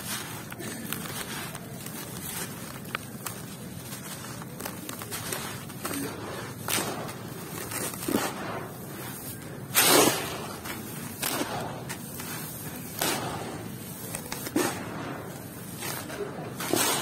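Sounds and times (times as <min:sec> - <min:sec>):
fingers raking sand: 0:00.0 - 0:17.0
sand pouring from hands: 0:00.0 - 0:17.0.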